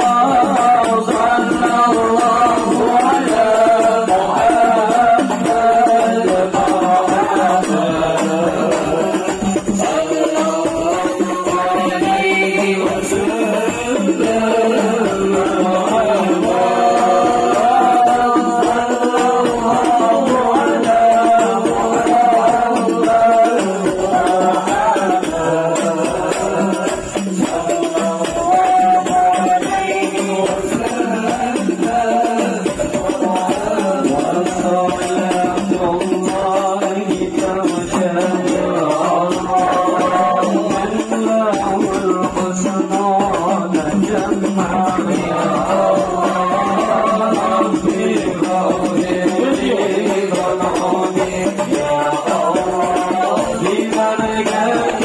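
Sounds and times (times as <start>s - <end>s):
frame drums: 0.0s - 55.0s
jingling tambourine: 0.0s - 55.0s
voices singing devotional melody: 0.0s - 55.0s.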